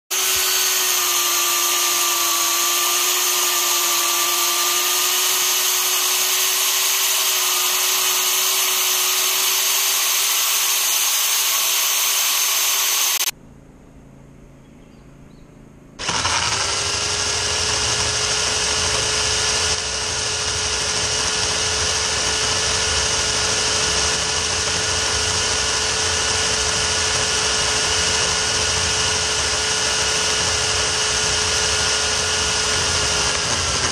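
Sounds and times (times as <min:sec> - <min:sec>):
electric chainsaw cutting log: 0:00.0 - 0:13.3, 0:16.0 - 0:33.9.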